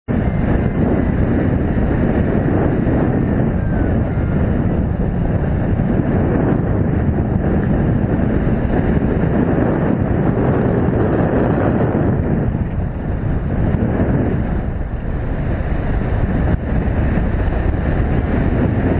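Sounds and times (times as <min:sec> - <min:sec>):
wind buffeting microphone: 0:00.1 - 0:18.9.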